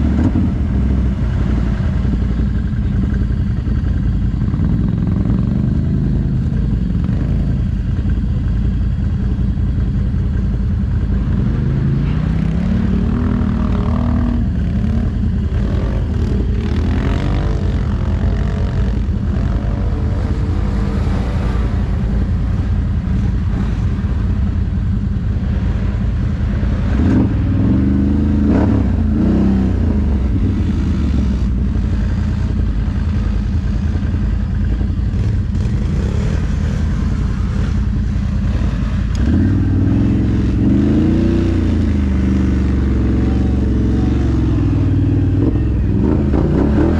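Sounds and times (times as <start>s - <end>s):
atv engines revving: 0.0s - 46.9s.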